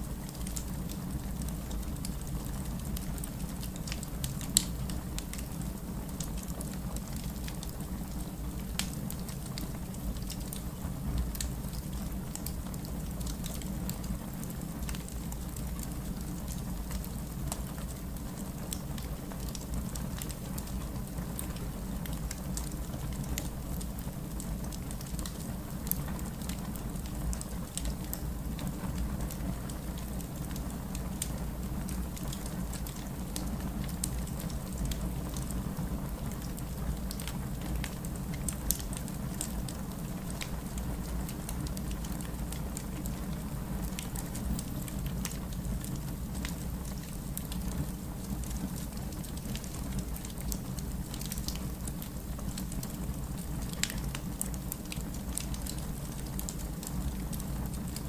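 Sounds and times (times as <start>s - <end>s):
low rumble of fire: 0.0s - 58.0s
wood fire crackling and popping: 0.0s - 58.0s.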